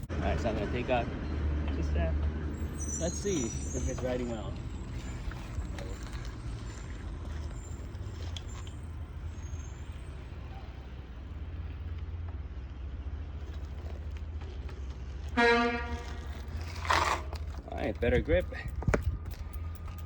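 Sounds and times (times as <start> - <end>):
bicycle riding rumble: 0.0 - 20.0.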